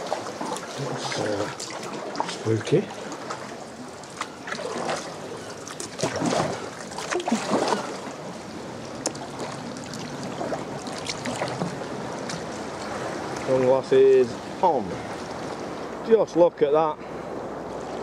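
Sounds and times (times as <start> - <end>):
paddle splashes: 0.0 - 16.1
water sloshing and lapping: 0.0 - 16.4, 17.1 - 18.0.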